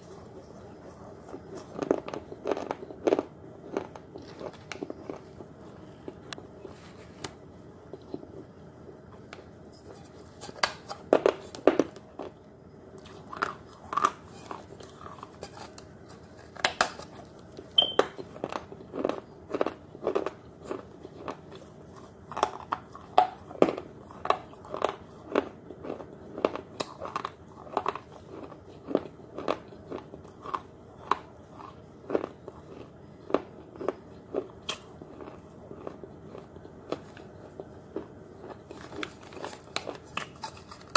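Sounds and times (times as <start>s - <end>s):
crunchy clay pot being chewed: 0.0s - 9.0s, 9.7s - 40.9s.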